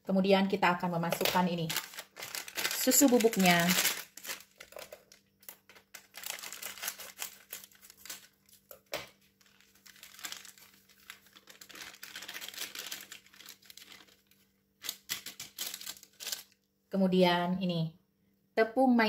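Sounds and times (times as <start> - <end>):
foil sachet crinkling: 0.9 - 16.6.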